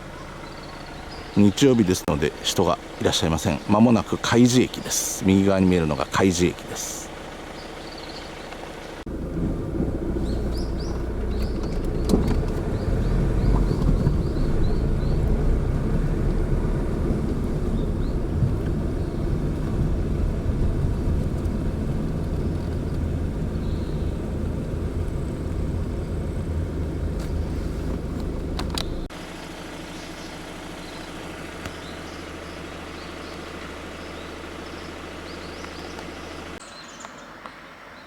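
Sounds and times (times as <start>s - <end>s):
car engine and tyre noise: 0.0s - 38.0s.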